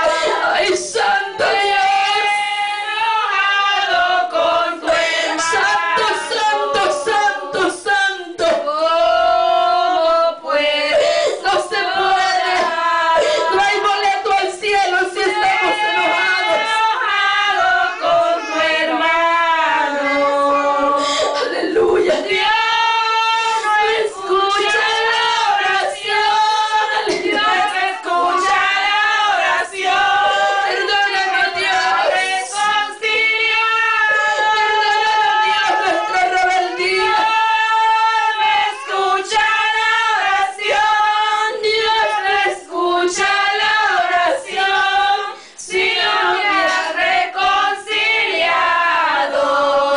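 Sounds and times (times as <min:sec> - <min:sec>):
voices singing a hymn: 0:00.0 - 0:49.9.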